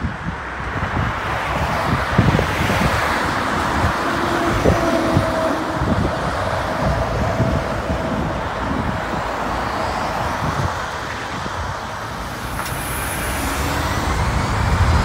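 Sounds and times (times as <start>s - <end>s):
road traffic roar: 0.0s - 15.0s
wind buffeting microphone: 0.0s - 15.0s.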